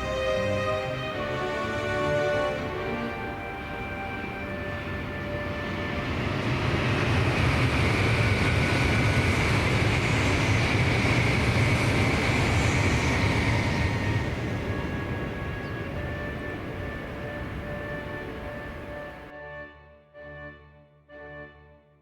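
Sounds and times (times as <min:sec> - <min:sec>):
bullet train passing: 0:00.0 - 0:19.3.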